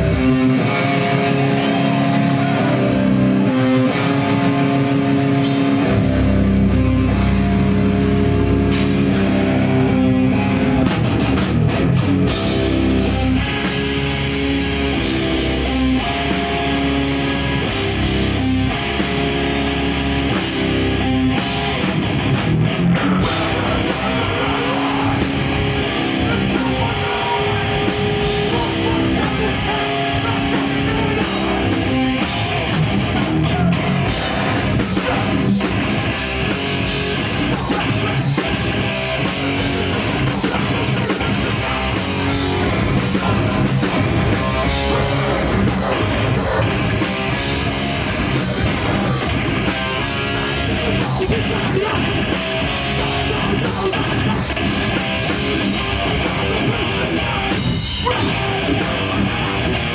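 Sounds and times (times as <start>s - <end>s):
bass guitar: 0.0s - 59.9s
distorted electric guitars: 0.0s - 59.9s
drum kit: 0.0s - 59.9s.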